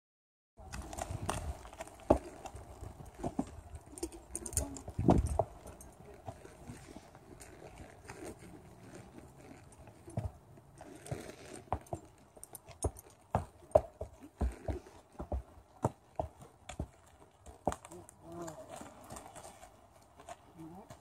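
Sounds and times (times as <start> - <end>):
horse hooves on wooden planks: 0.6 - 21.0.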